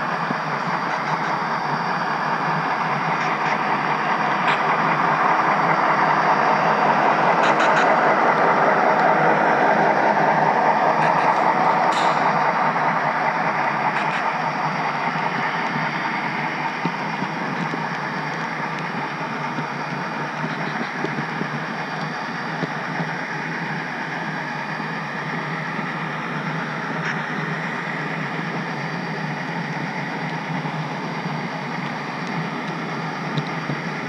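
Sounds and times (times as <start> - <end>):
model train rolling on track: 0.0 - 34.0.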